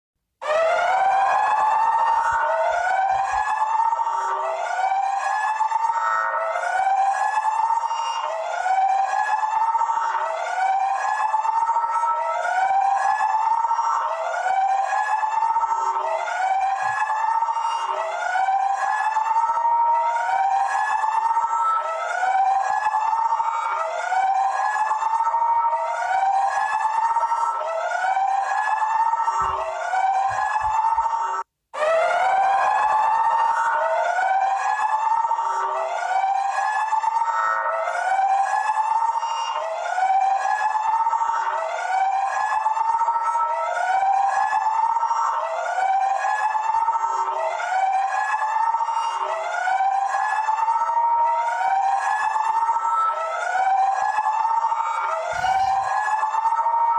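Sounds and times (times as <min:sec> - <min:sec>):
electronic alarm siren whooping: 0:00.4 - 0:56.9.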